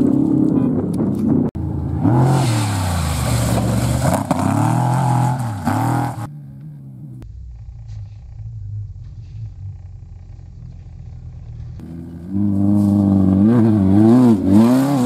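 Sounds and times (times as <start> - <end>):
off-road buggy engine revving: 1.6 - 15.0.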